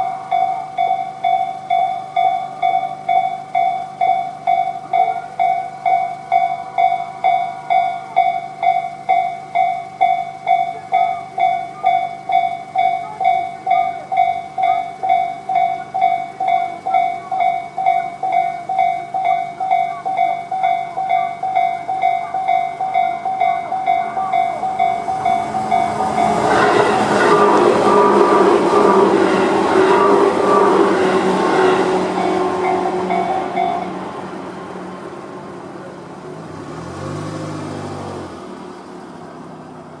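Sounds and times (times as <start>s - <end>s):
electric train approaching: 0.0s - 40.0s
level-crossing warning bells: 0.0s - 40.0s.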